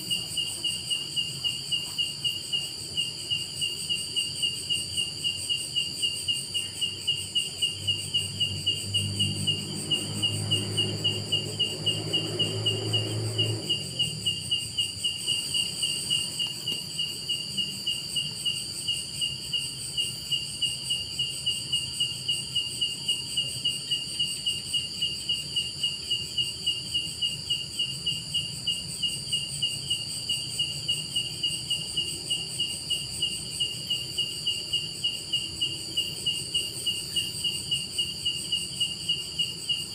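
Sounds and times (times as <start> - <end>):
cricket chirping: 0.0 - 39.9
high-pitched insect trill: 0.0 - 39.9.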